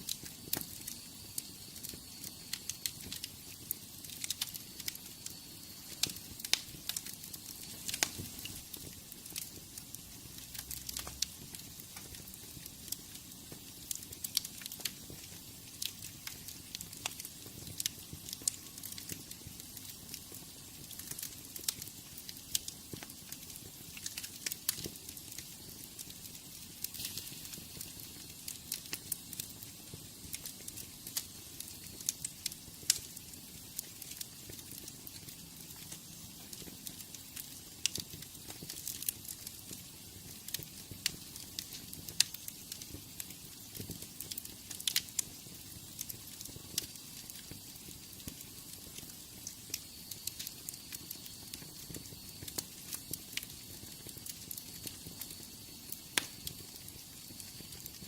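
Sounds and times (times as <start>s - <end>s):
soft hiss of flames: 0.0s - 58.0s
wood fire crackling: 0.0s - 58.0s.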